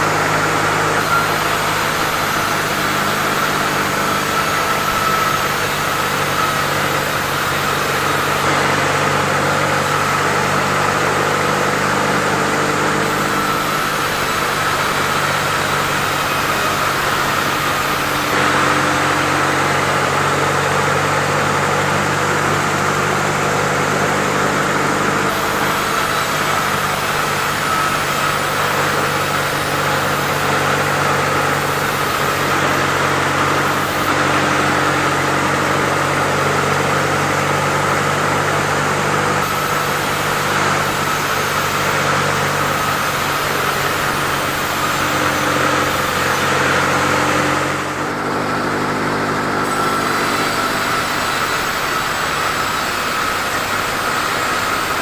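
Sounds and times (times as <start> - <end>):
sawmill machinery humming and whining: 0.0 - 55.0.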